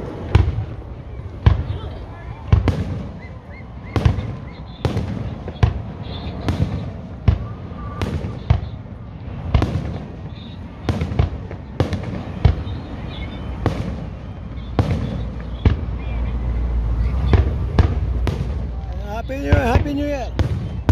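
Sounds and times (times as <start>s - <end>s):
fireworks bursting with echo: 0.0s - 20.9s.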